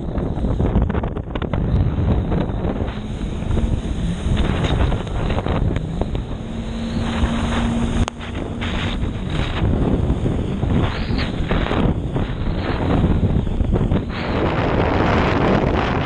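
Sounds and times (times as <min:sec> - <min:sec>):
jet ski engine running: 0:00.0 - 0:16.0
wind buffeting microphone: 0:00.0 - 0:16.0.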